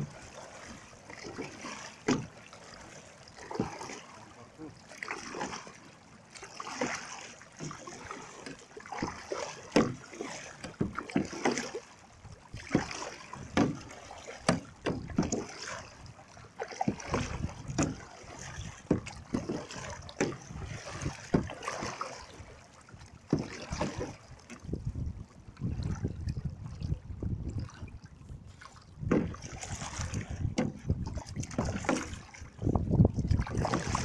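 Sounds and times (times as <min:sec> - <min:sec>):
kayak paddle splashing: 0:00.0 - 0:34.0
water washing along hull: 0:00.0 - 0:34.0.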